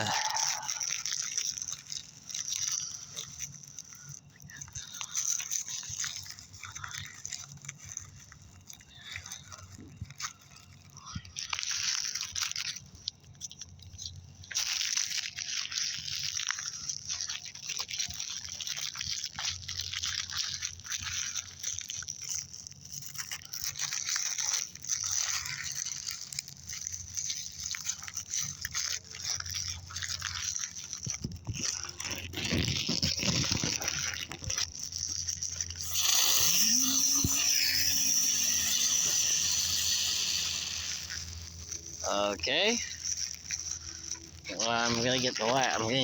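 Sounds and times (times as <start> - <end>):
crackling hiss of spinning fireworks: 0.0 - 46.0.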